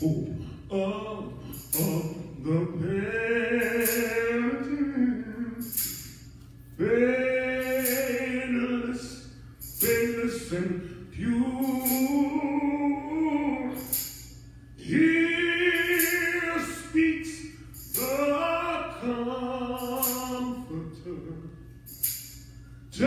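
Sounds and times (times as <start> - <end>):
vocal trio singing: 0.0 - 6.0, 6.8 - 14.0, 14.8 - 17.4, 18.0 - 21.5.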